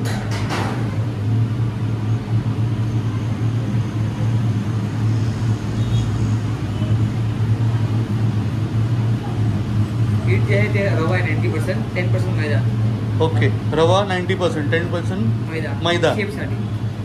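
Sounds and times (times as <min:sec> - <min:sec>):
kitchen equipment droning: 0:00.0 - 0:17.0.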